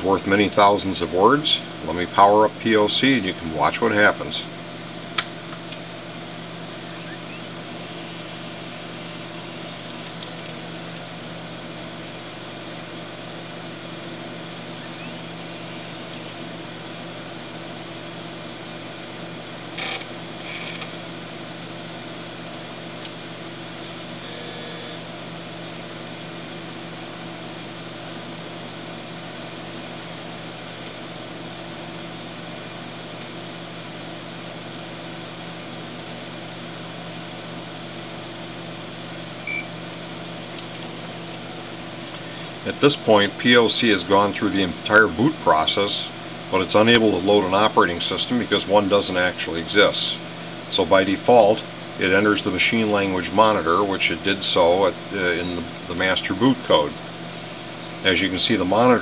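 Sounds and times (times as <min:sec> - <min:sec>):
computer fans and drives humming: 0:00.0 - 0:59.0
drive chirp: 0:00.1 - 0:34.6, 0:38.1 - 0:47.4, 0:54.1 - 0:59.0.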